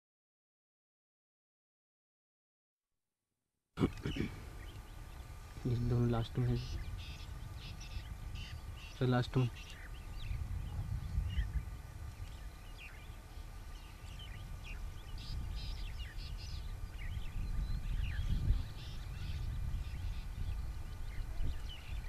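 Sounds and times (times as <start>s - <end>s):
birds chirping: 3.8s - 22.0s.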